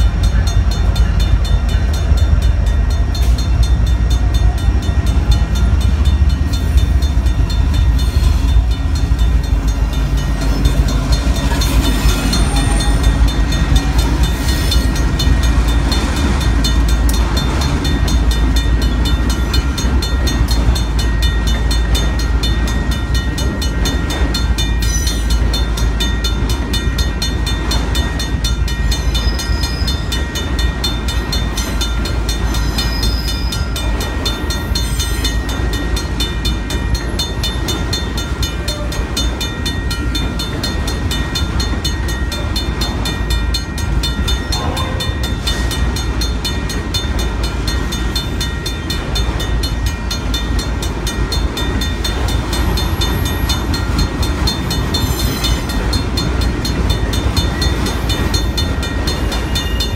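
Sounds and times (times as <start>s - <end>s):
freight train rumble: 0.0s - 59.9s
level-crossing bell ringing: 0.0s - 59.9s.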